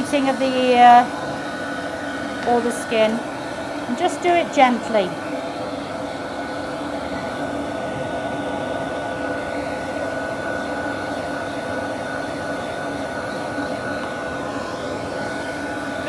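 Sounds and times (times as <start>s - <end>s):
grooming dryer blowing air: 0.0s - 16.0s.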